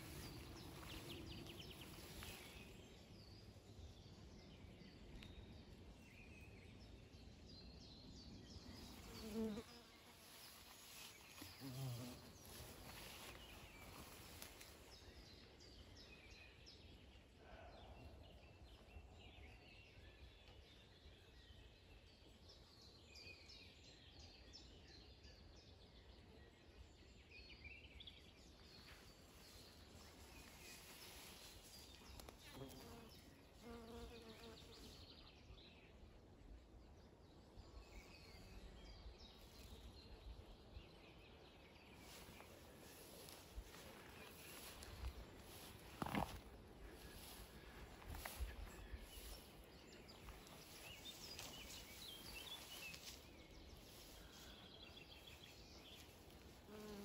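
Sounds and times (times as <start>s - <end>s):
small birds chirping: 0.0s - 23.5s, 27.0s - 57.0s.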